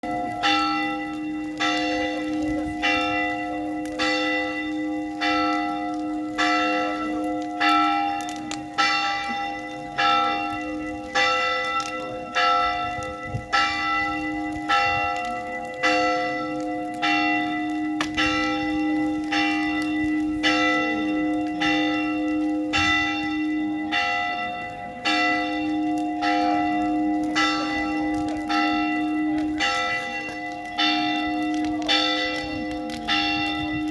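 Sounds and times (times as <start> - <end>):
church bell ringing: 0.0 - 33.9.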